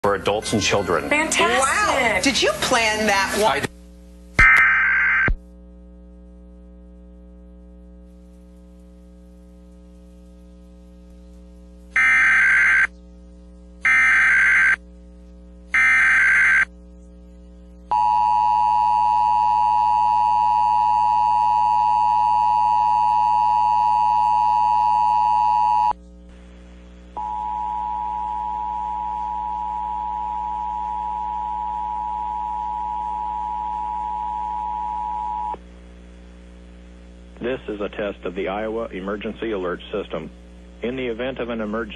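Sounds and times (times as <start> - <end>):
steady low hum: 1.0 - 41.9.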